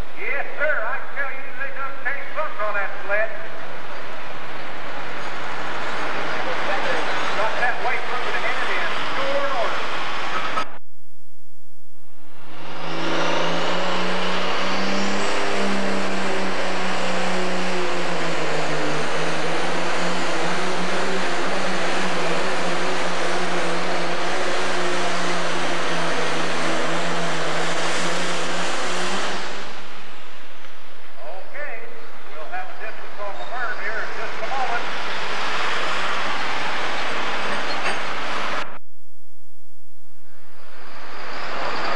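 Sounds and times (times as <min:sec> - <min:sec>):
diesel engine at full power: 0:00.0 - 0:10.8, 0:12.2 - 0:38.8, 0:40.1 - 0:41.9.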